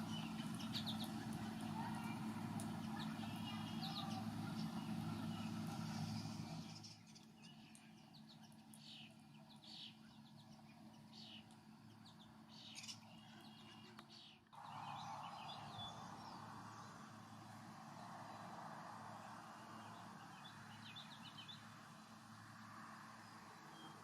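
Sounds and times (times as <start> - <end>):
small birds chirping: 0.0 - 22.6.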